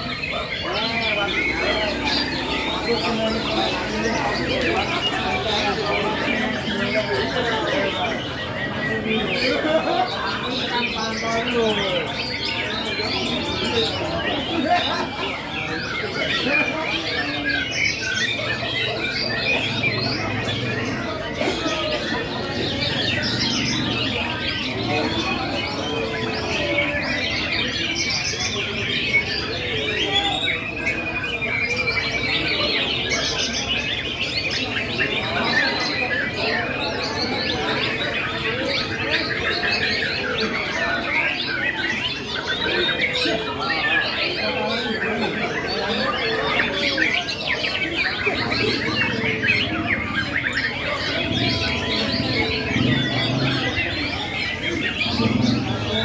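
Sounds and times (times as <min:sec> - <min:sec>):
people talking: 0:00.0 - 0:56.0
songbirds chorus: 0:00.0 - 0:56.0.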